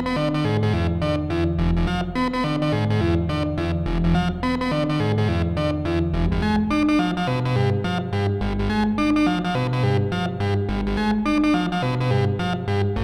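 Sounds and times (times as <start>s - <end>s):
modular synthesizer melody: 0.0s - 13.0s.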